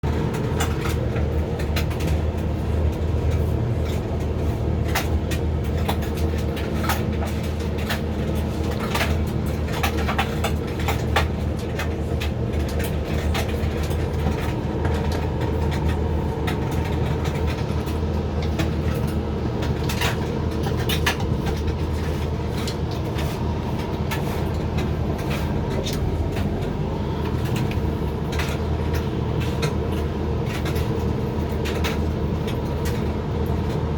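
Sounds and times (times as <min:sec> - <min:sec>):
dryer motor and fan hum: 0:00.0 - 0:33.9.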